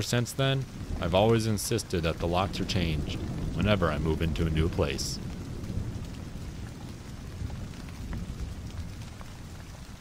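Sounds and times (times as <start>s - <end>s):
rain hissing: 0.0s - 10.0s
raindrop ticks: 0.0s - 10.0s.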